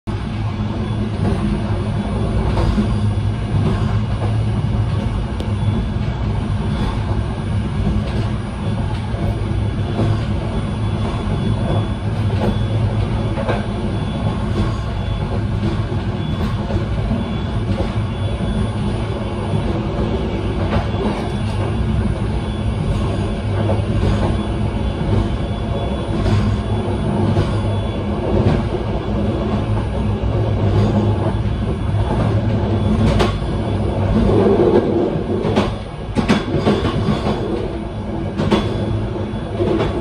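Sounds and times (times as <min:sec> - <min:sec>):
train wheels clicking and knocking: 0:00.1 - 0:40.0
train wheels rumbling on rail: 0:00.1 - 0:40.0.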